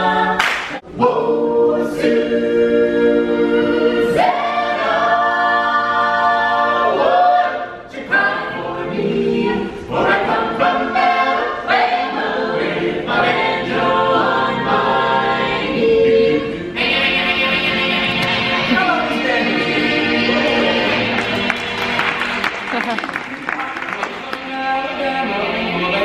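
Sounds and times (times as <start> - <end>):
choir singing a cappella: 0.0 - 21.8, 24.2 - 26.0.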